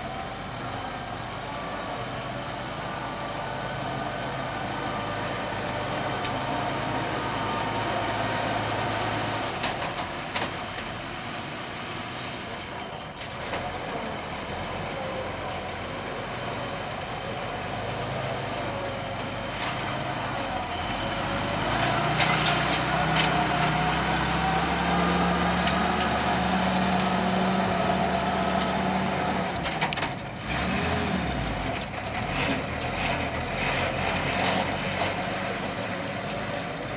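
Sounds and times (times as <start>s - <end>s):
truck engine idling and revving: 0.0s - 36.9s.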